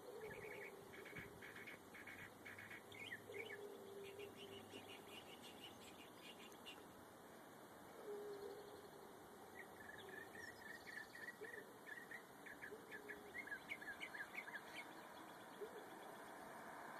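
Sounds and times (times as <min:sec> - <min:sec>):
songbird singing faintly: 0:00.0 - 0:16.9.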